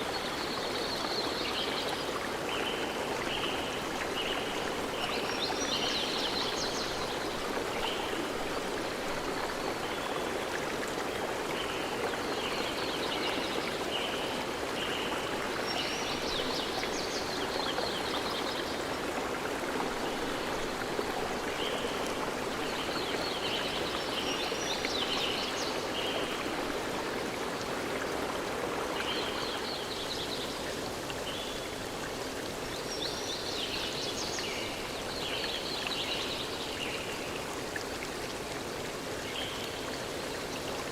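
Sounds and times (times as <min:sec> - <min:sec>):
stream of water rushing: 0:00.0 - 0:40.9.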